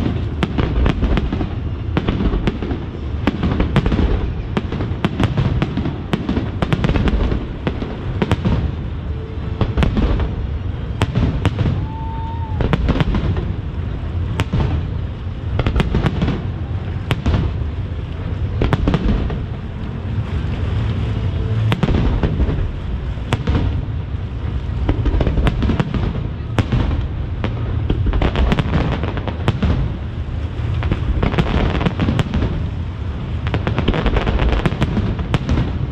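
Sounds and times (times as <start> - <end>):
fireworks bursting and crackling: 0.0 - 35.9
steady low rumble: 0.0 - 35.9.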